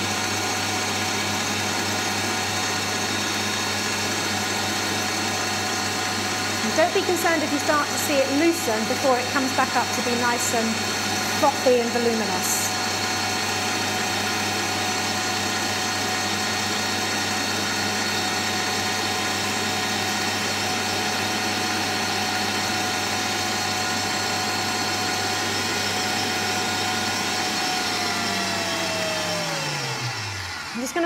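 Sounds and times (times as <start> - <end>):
electric stand mixer whining: 0.0 - 31.0.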